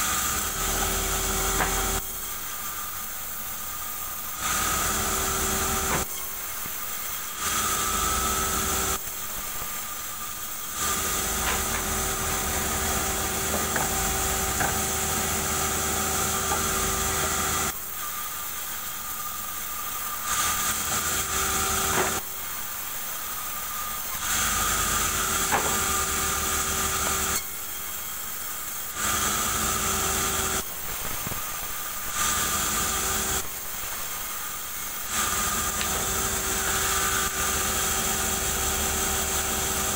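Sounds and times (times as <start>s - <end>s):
band saw cutting a log: 0.0s - 18.1s, 19.1s - 22.6s, 23.3s - 39.9s.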